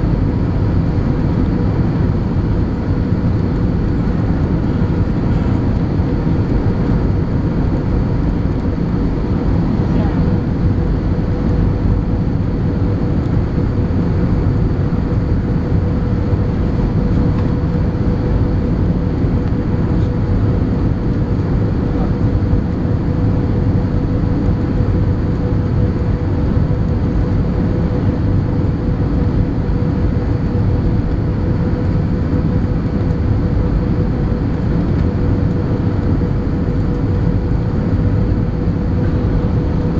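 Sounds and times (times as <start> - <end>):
airliner cabin engine rumble: 0.0 - 39.9
steady hum: 0.0 - 39.9.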